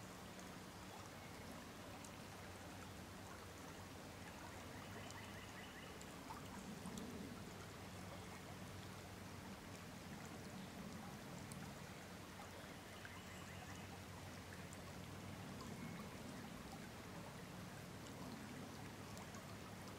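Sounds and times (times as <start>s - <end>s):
shallow stream flowing: 0.0s - 19.9s.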